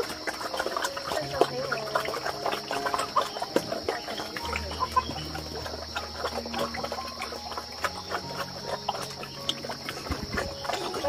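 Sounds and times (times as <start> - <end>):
insects droning: 0.0 - 11.0
pigs chewing: 0.0 - 11.0.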